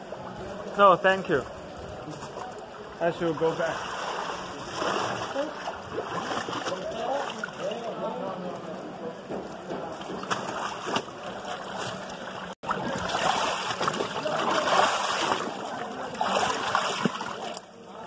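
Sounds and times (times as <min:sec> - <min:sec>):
muddy liquid sloshing and splashing: 0:02.2 - 0:17.8.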